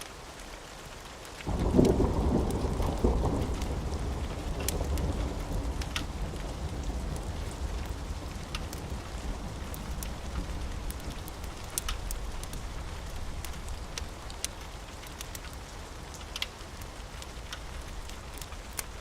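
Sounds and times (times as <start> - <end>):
steady rain: 0.0 - 19.0
wood fire crackling: 0.1 - 19.0.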